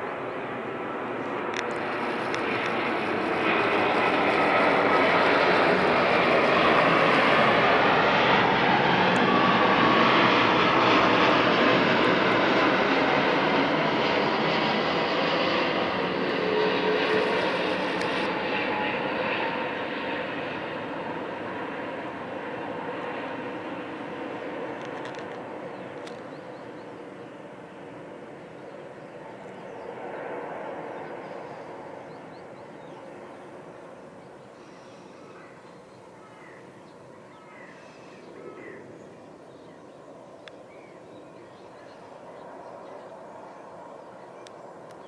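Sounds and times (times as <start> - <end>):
jet airliner engine noise: 0.0 - 45.0.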